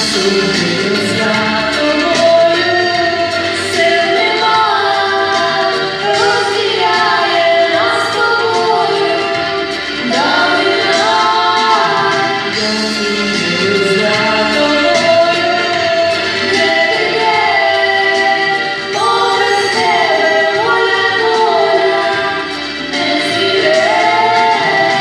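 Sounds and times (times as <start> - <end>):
female vocal duet singing pop: 0.0 - 25.0
instrumental accompaniment: 0.0 - 25.0.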